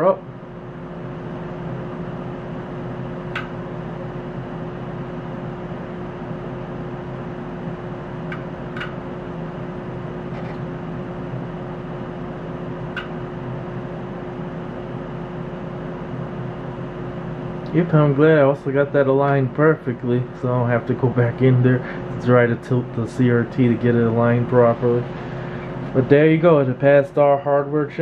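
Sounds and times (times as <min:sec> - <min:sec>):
cooling fan whirring hum: 0:00.0 - 0:28.0.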